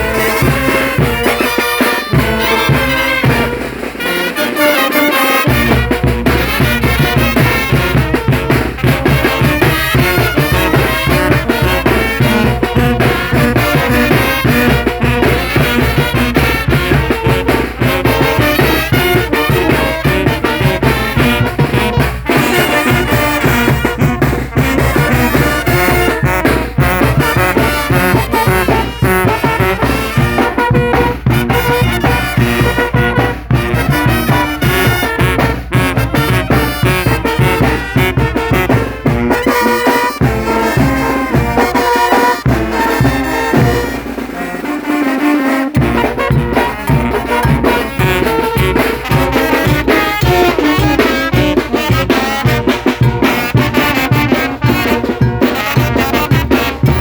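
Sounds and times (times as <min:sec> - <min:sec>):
drums: 0:00.0 - 0:57.0
trumpets and trombones: 0:00.0 - 0:57.0
rhythmic bass: 0:05.5 - 0:44.5, 0:45.7 - 0:57.0.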